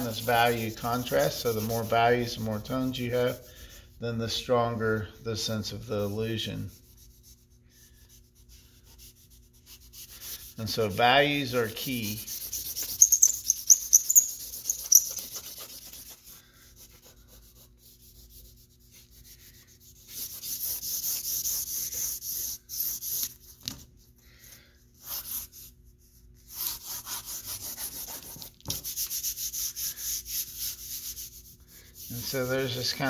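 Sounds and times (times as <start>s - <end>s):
charcoal scratching on paper: 0.0s - 3.5s, 5.9s - 23.5s, 25.0s - 33.0s.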